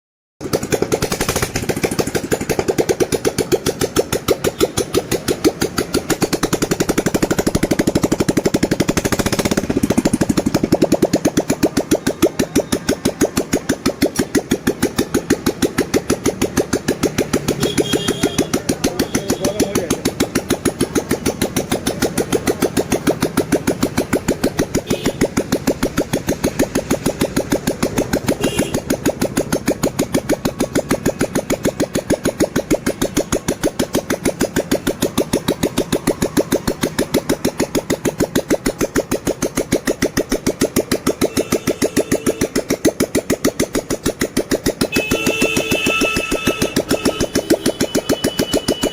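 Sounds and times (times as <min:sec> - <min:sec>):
single-cylinder engine idling: 0:00.4 - 0:48.9.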